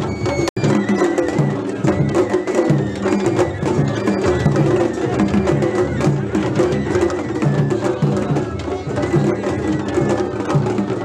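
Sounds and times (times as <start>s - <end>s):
large taiko drum beating: 0.2s - 11.0s.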